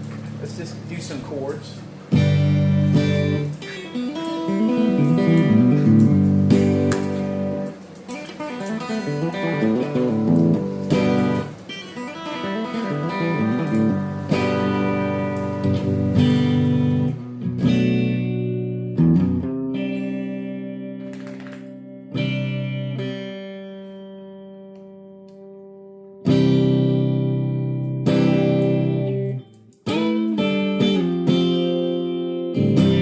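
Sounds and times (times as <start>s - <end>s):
guitar chords ringing: 0.0s - 33.0s.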